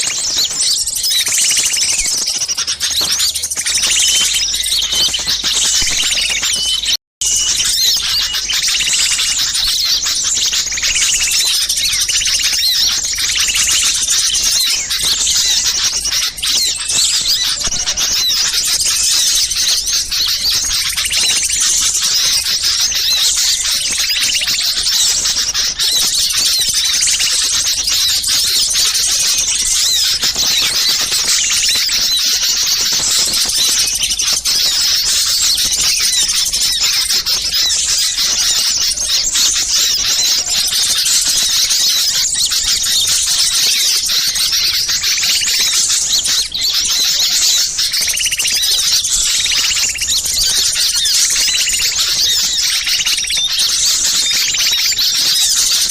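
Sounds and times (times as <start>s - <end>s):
chorus of small songbirds chirping: 0.0s - 55.9s.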